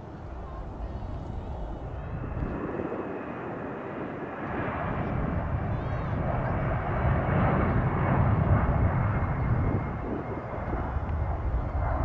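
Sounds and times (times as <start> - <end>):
jet engines passing: 0.0 - 12.0.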